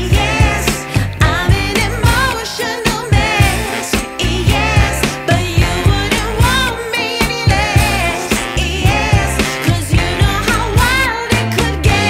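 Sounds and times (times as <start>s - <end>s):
pop song with singing: 0.0s - 12.0s.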